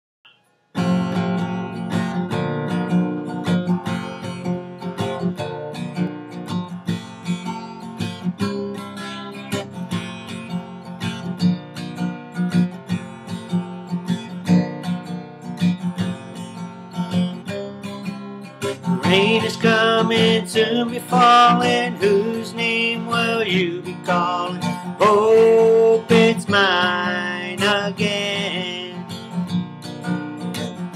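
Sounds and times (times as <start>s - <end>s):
acoustic guitar picked and strummed: 0.2s - 30.9s.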